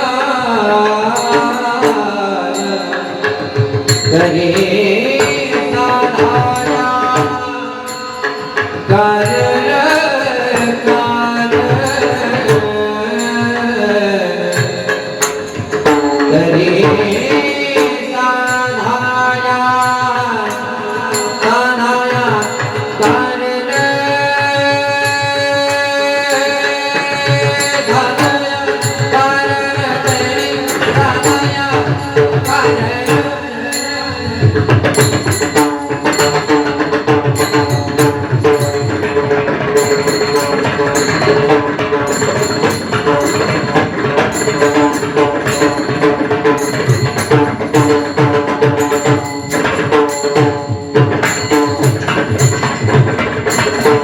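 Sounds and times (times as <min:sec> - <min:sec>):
men singing devotional song: 0:00.0 - 0:54.0.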